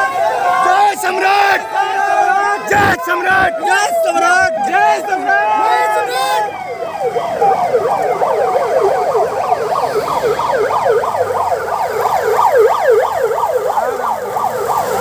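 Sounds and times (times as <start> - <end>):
electronic sirens yelping: 0.0 - 15.0.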